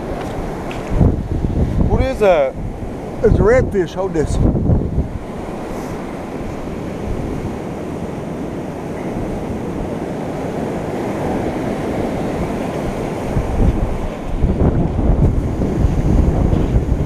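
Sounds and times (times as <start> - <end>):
ocean surf rushing: 0.0 - 17.0
wind on microphone: 0.0 - 17.0.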